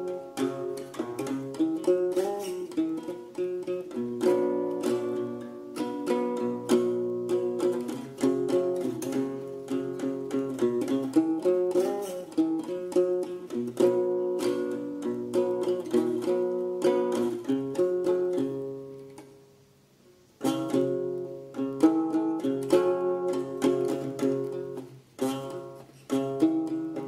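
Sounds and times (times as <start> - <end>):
plucked string music: 0.0 - 27.0.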